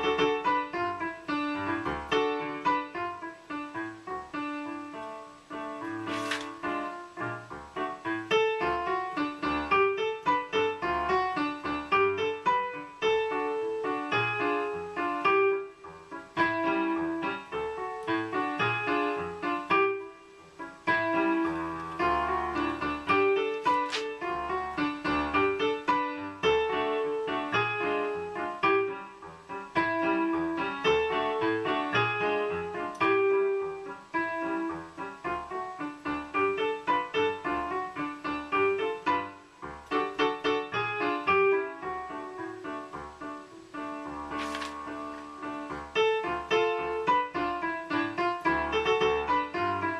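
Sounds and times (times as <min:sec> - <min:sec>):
piano music: 0:00.0 - 0:49.9.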